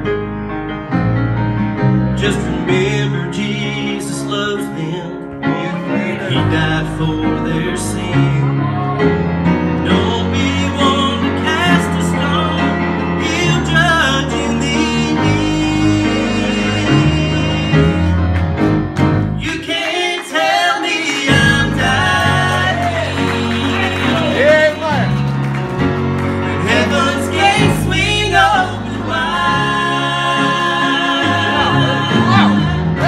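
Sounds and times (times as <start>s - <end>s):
grand piano gospel accompaniment: 0.0s - 33.0s
man singing: 2.2s - 9.1s, 9.8s - 18.2s, 19.4s - 25.3s, 26.4s - 33.0s.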